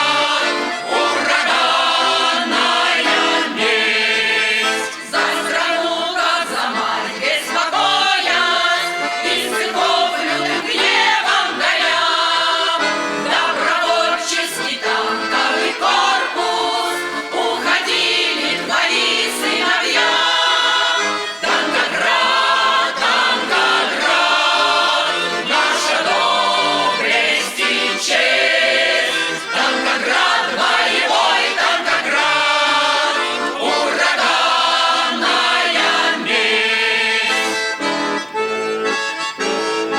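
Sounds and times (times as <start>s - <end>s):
choir singing: 0.0s - 38.4s
accordion: 0.0s - 39.9s.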